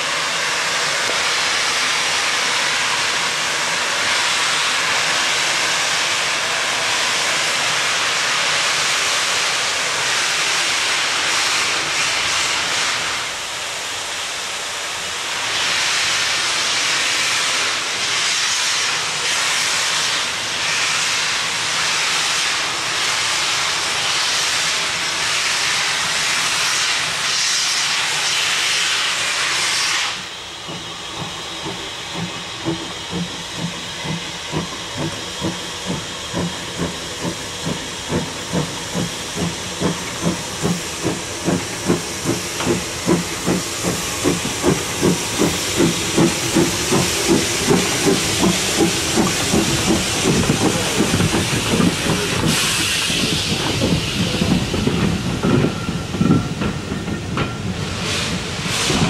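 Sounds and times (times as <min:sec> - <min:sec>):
locomotive steam hissing: 0:00.0 - 0:59.0
steam engine exhaust beats: 0:00.0 - 0:59.0.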